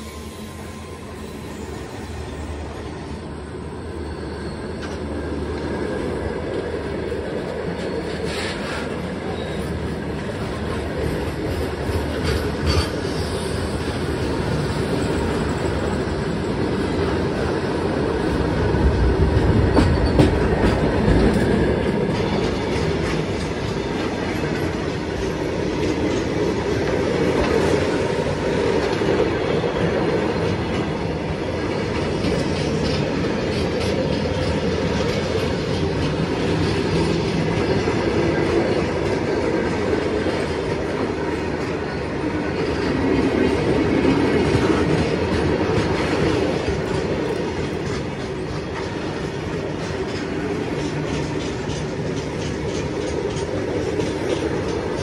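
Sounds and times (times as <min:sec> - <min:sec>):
train wagons clanking: 0:04.0 - 0:55.0
freight train wheels clattering: 0:04.3 - 0:55.0.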